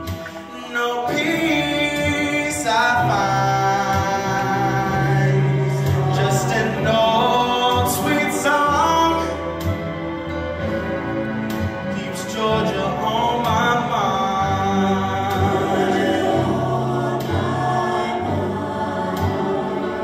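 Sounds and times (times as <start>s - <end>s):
man singing into microphone: 0.0s - 9.9s, 11.9s - 18.4s.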